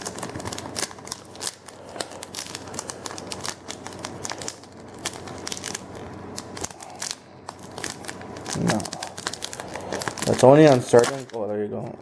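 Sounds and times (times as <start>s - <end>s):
foil wrapper crinkling: 0.0s - 11.9s.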